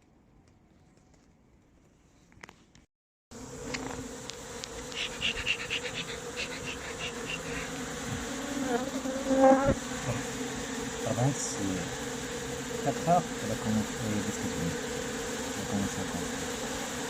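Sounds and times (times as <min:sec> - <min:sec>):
honeybee swarm buzzing: 0:03.3 - 0:17.0.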